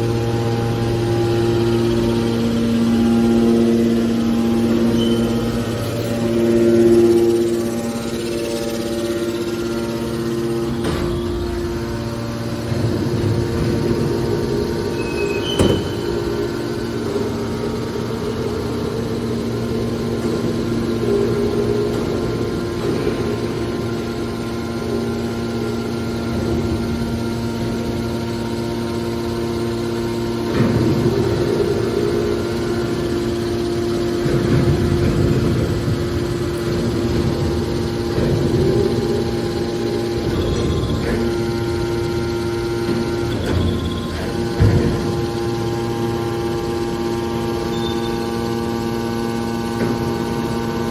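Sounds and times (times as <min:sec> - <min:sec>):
baling machine humming: 0:00.0 - 0:50.9
machine rumbling: 0:00.0 - 0:50.9.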